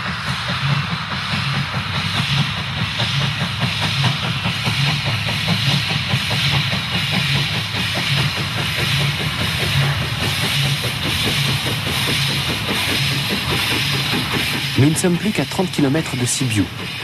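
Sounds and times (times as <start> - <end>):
steam locomotives chuffing: 0.0 - 17.0
train rumble and hiss: 0.0 - 17.0.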